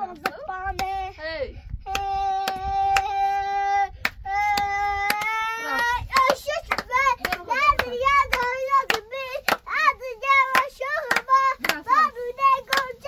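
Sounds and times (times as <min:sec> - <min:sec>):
hands clapping a steady beat: 0:00.0 - 0:01.0, 0:01.9 - 0:03.2, 0:04.0 - 0:13.0
high voice singing: 0:01.8 - 0:13.0.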